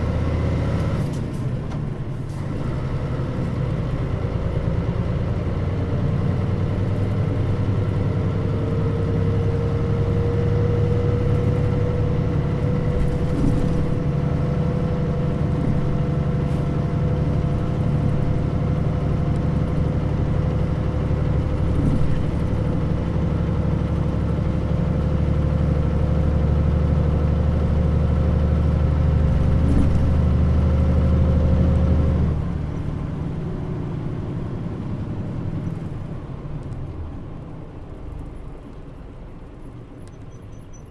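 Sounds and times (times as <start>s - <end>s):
engine whine: 0.0s - 40.8s
bus diesel engine pulling: 0.0s - 40.9s.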